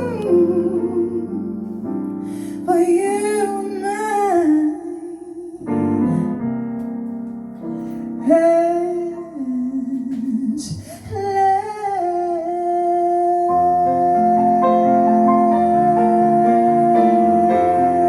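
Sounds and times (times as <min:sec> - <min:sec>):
woman singing with vibrato: 0:00.0 - 0:01.8, 0:02.6 - 0:06.3, 0:08.2 - 0:18.0
slow piano accompaniment: 0:00.0 - 0:18.0.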